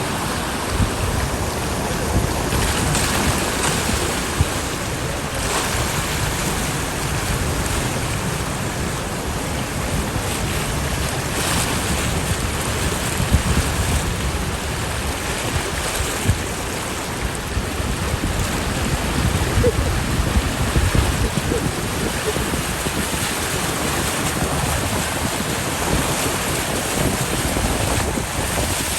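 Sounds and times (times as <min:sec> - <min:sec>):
heavy rain rushing: 0:00.0 - 0:11.4, 0:16.5 - 0:28.9
wind buffeting microphone: 0:00.0 - 0:28.9.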